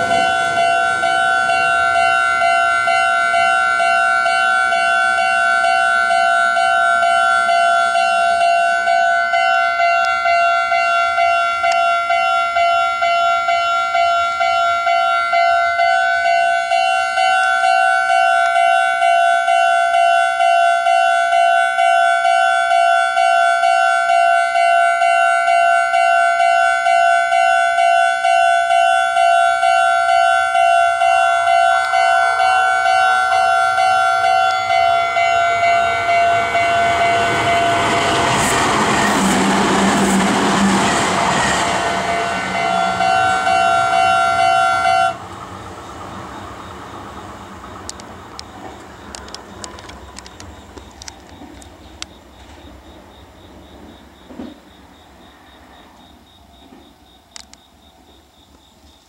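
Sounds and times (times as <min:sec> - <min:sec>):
level crossing warning bell: 0:00.0 - 0:54.4.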